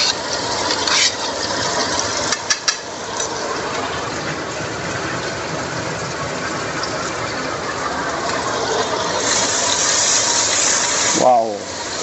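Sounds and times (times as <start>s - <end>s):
paste frying in hot oil: 0.0s - 12.0s.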